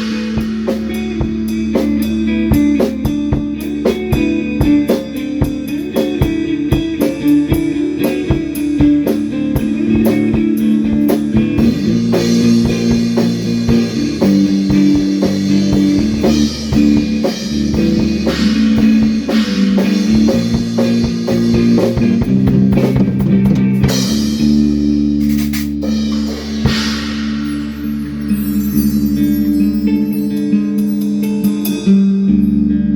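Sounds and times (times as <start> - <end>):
drum kit with cymbals: 0.0 - 32.6
rock guitar: 0.0 - 32.9.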